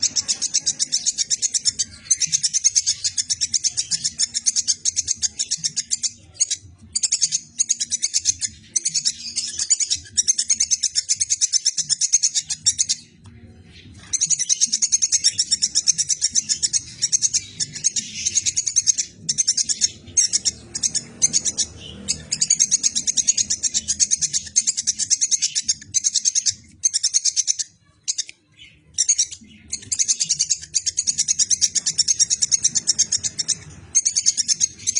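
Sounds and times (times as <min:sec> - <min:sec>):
squirrel chattering: 0:00.0 - 0:13.2, 0:14.0 - 0:34.9.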